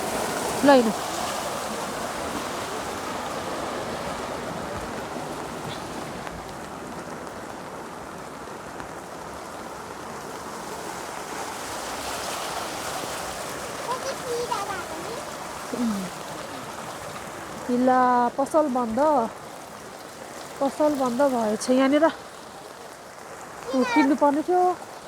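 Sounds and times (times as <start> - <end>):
floodwater rushing: 0.0 - 25.0
heavy rain falling: 0.0 - 25.0.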